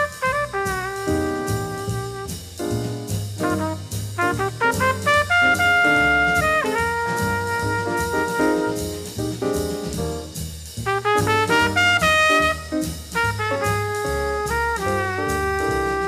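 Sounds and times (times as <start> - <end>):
jazz tenor saxophone: 0.0 - 9.2, 10.8 - 16.0
walking bass line: 0.0 - 16.0.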